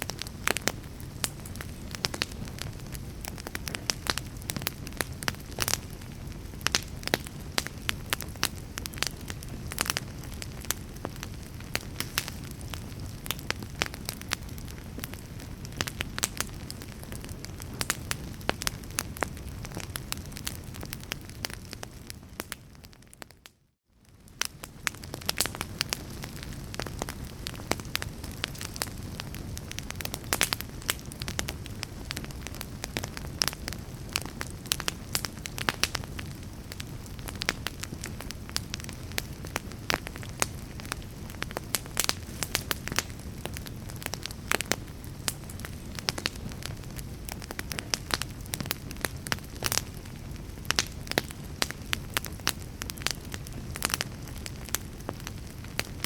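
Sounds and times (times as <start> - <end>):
fire crackling: 0.0 - 56.0
low rumble of flame: 0.0 - 56.0.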